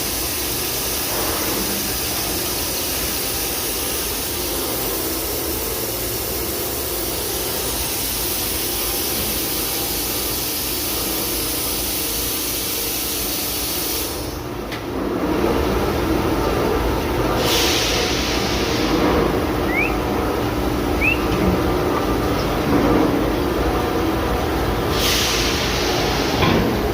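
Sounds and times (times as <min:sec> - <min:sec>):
low machine noise: 0:00.0 - 0:26.9.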